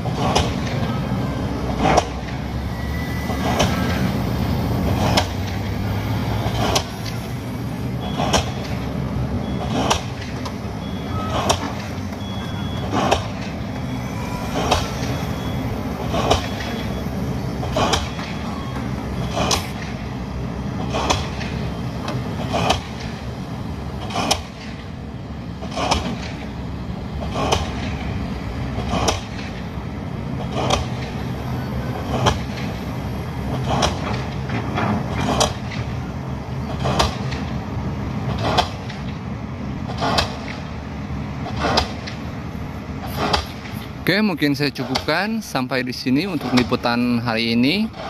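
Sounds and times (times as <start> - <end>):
pile-driving hammer blows: 0.0 - 25.0, 25.6 - 48.0
excavator diesel engines running: 0.0 - 48.0.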